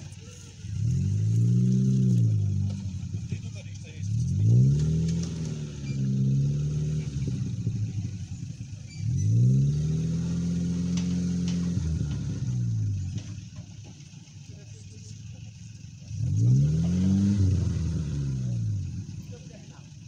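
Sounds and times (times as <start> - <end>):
engine revving hard: 0.0 - 13.3, 16.0 - 19.9.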